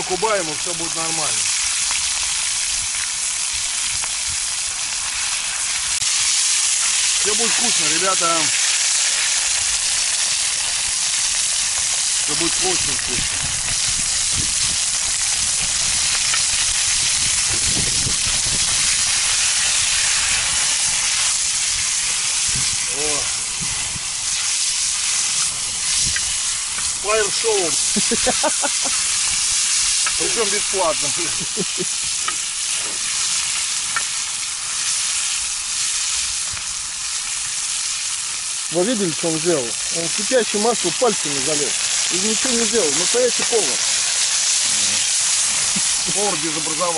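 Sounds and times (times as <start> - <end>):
meat sizzling in a pan: 0.0 - 46.9.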